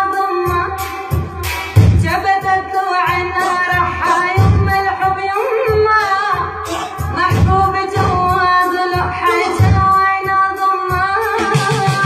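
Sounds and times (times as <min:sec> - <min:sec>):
music with steady low beat: 0:00.0 - 0:12.0.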